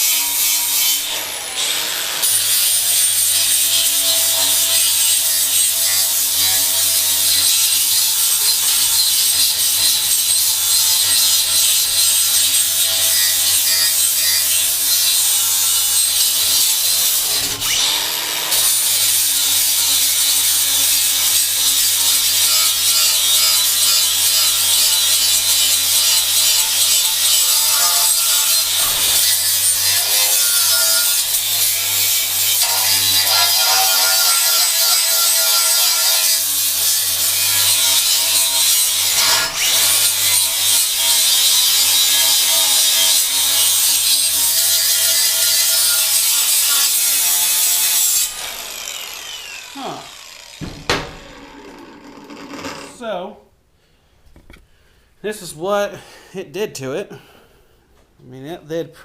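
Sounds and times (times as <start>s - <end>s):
angle grinder sanding: 1.9s - 17.8s, 18.6s - 53.0s.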